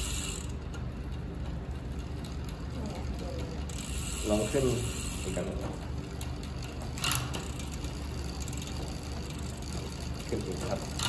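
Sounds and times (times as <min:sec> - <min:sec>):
bicycle wheel ratchet ticking: 0:00.0 - 0:11.0.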